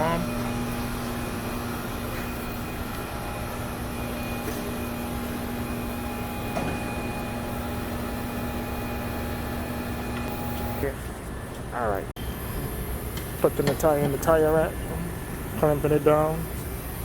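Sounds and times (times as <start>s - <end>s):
shop machinery humming: 0.0s - 17.0s.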